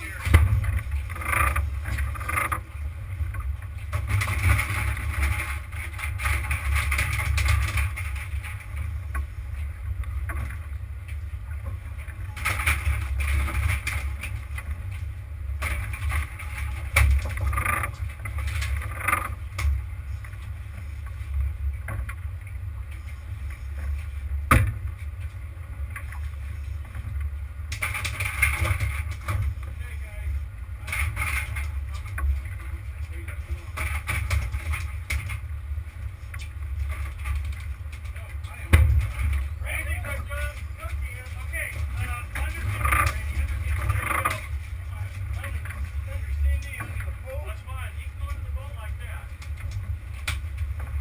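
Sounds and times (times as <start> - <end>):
boat engine low rumble: 0.0 - 51.0.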